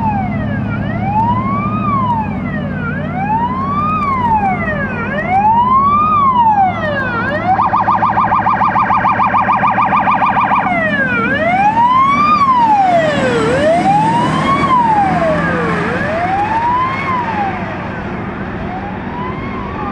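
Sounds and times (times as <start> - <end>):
truck engine running: 0.0 - 19.0
fire truck siren: 0.0 - 19.9.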